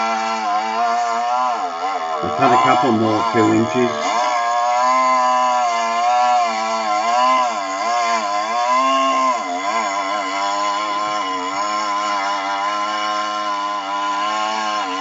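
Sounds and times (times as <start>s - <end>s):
chainsaw cutting log at high revs: 0.0s - 15.0s.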